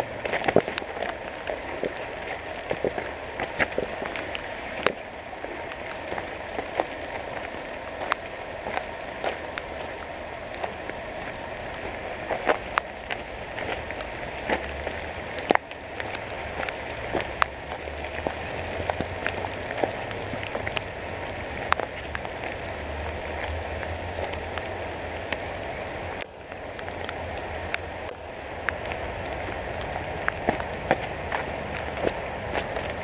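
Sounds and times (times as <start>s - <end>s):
rain falling on foliage: 0.0s - 33.0s.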